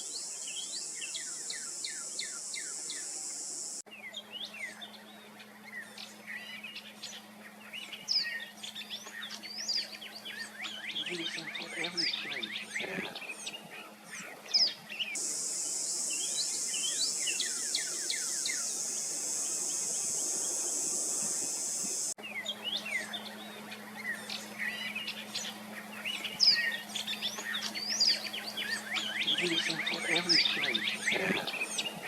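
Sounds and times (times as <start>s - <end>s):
steady high hiss: 0.0s - 3.9s, 4.6s - 32.0s
songbirds chirping: 0.0s - 32.0s.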